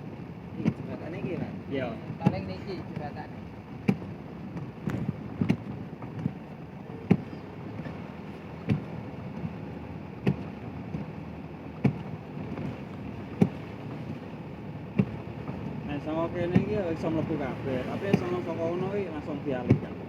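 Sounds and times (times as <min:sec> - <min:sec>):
vehicle and road rumble: 0:00.0 - 0:20.0.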